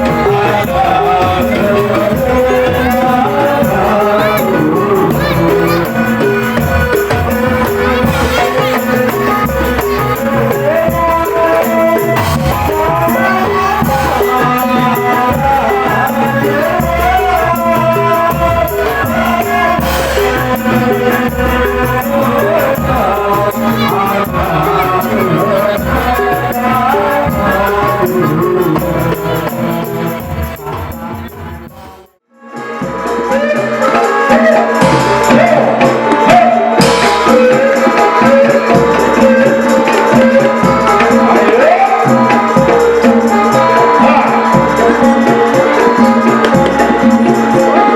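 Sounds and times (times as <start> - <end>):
folk music with rattle percussion: 0.0 - 47.9.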